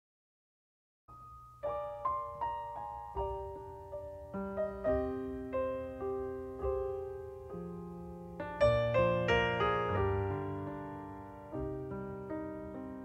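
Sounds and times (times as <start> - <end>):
slow solo piano music: 1.1 - 13.0.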